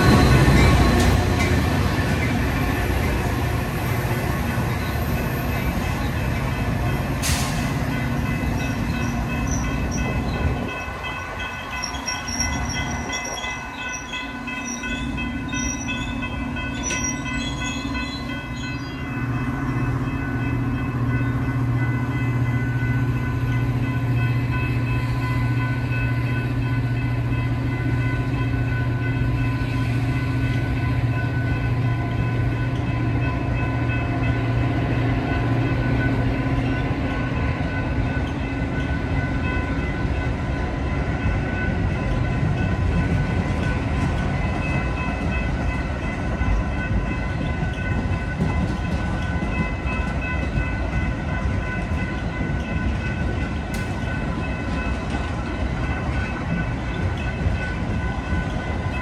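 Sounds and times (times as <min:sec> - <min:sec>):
train cars rumbling past: 0:00.0 - 0:59.0.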